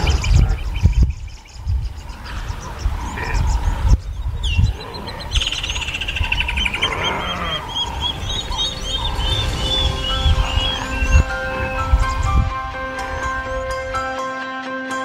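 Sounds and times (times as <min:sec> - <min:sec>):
deep low animal calls: 0:00.0 - 0:13.6
bird chirping: 0:00.0 - 0:13.9.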